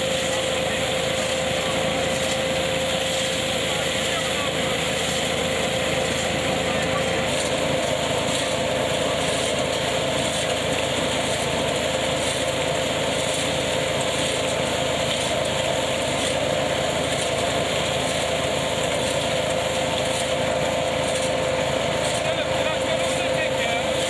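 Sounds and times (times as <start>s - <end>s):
machine mechanical drone: 0.0s - 24.0s
steady whining tone: 0.0s - 24.0s.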